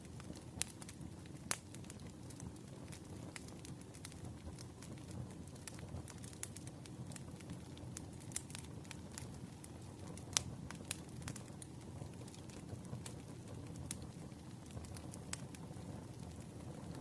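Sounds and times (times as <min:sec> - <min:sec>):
firewood crackling and popping: 0:00.0 - 0:17.0
low rumble of fire: 0:00.0 - 0:17.0.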